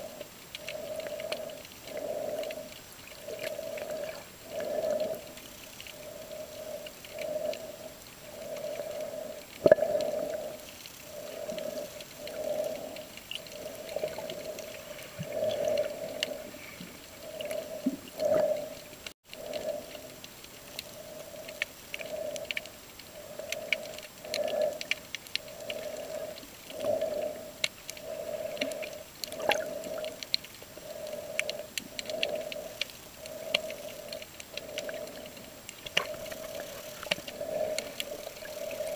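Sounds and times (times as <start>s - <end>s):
crackling clicks: 0.0s - 38.9s
low pulsing underwater hum: 0.0s - 38.9s.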